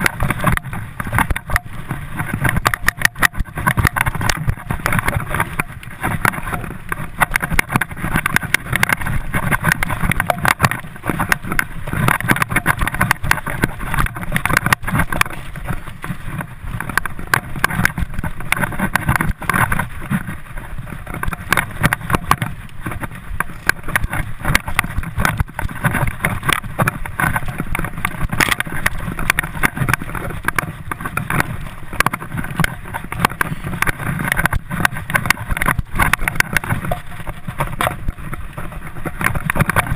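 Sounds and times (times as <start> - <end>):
mountain bike rattling and knocking: 0.0 - 39.9
tyres on bumpy dirt: 0.0 - 39.9.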